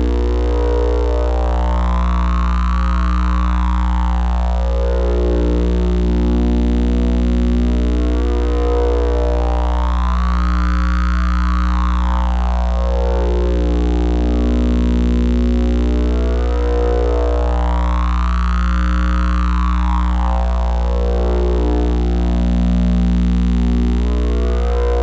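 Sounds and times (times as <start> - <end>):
strong low hum: 0.0 - 12.4, 13.3 - 16.6, 18.1 - 25.0
electronic oscillator drone: 0.0 - 25.0
faint high tone sweeping: 0.0 - 25.0.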